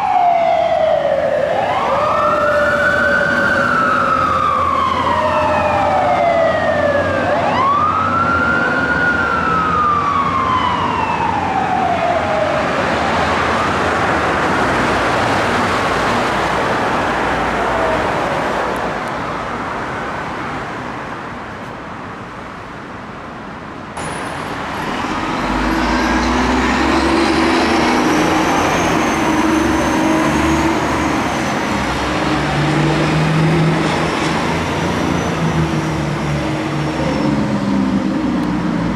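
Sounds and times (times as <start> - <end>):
fire engine sirens wailing: 0.0 - 19.1, 24.0 - 38.9
road noise: 0.0 - 38.9.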